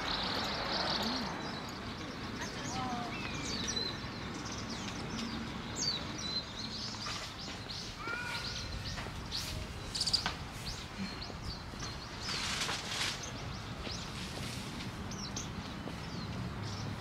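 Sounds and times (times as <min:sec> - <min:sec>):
birds chirping and calling: 0:00.0 - 0:17.0
outdoor background noise: 0:00.0 - 0:17.0.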